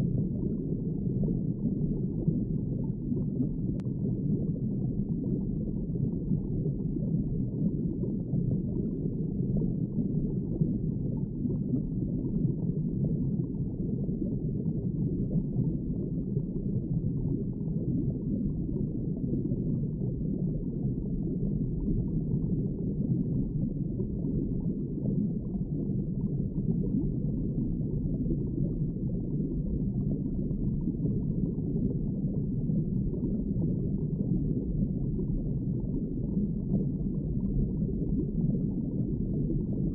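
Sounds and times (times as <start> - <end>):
underwater water wash: 0.0 - 39.9.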